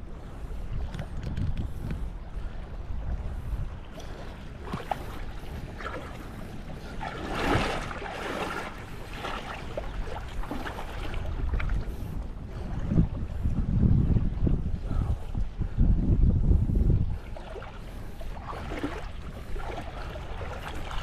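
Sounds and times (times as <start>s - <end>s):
wind rumbling on microphone: 0.0s - 21.0s
seawater sloshing and splashing: 0.7s - 15.4s, 17.0s - 21.0s.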